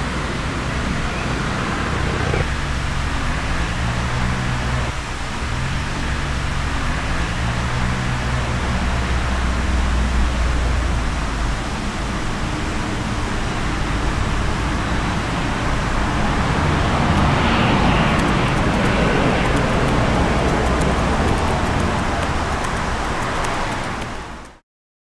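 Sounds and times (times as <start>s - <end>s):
low rumble: 0.0s - 11.6s, 13.4s - 24.4s
outdoor ambient rush: 0.0s - 24.6s.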